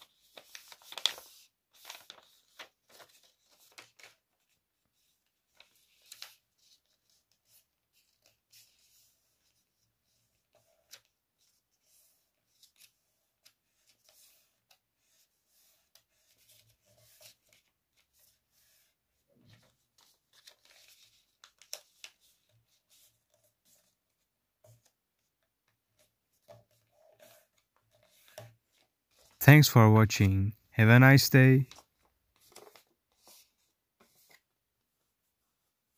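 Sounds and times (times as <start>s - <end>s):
paper rustling and crinkling: 0.0s - 29.4s, 31.7s - 35.7s.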